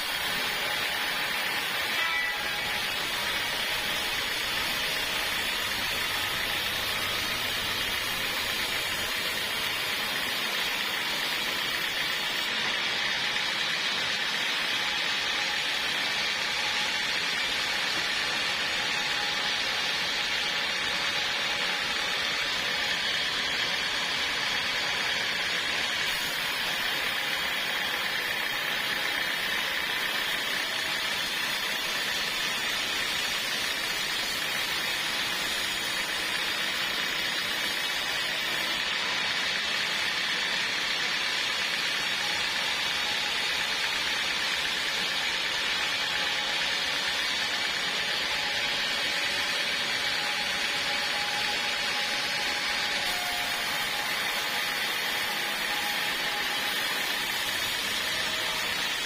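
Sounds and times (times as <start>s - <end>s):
sawmill running: 0.0s - 59.0s.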